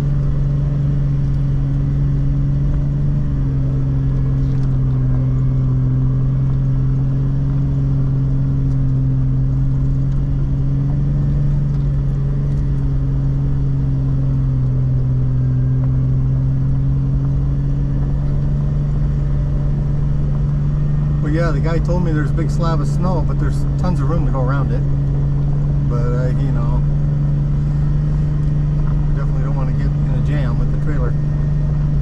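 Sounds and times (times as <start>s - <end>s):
car engine droning under load: 0.0s - 32.0s.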